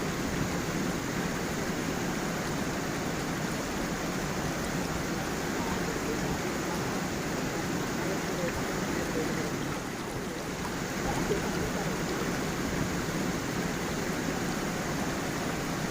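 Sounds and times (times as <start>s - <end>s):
stream flowing over stones: 0.0s - 15.9s.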